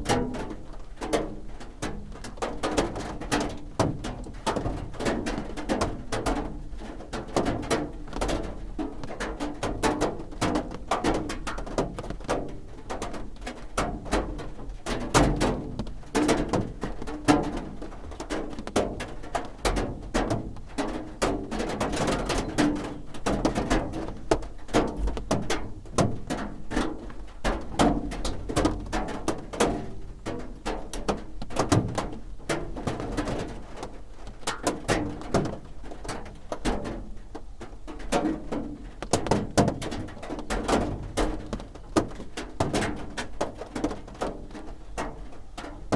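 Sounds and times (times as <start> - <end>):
rain drumming on a roof: 0.0 - 45.9.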